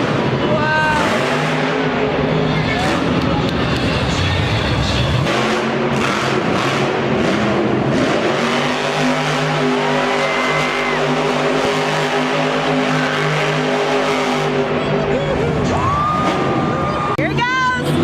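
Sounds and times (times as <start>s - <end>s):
monster truck engine running: 0.0s - 18.0s.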